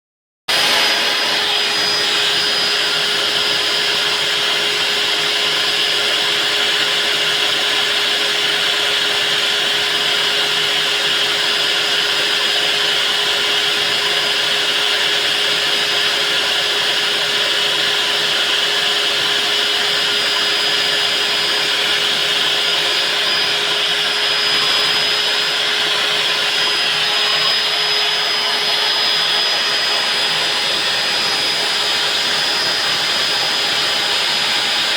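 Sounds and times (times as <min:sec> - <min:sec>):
core drill cutting concrete: 0:00.5 - 0:34.9.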